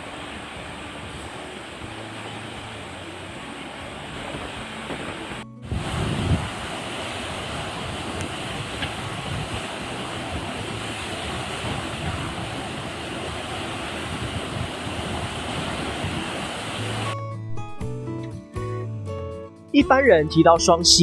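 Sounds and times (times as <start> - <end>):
bus road and engine noise: 0.0 - 17.2
low rumbles: 0.0 - 18.3.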